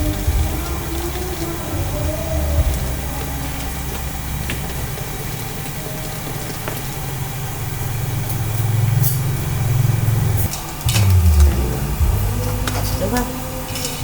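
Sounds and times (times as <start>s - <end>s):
low engine-like rumble: 0.0s - 14.0s.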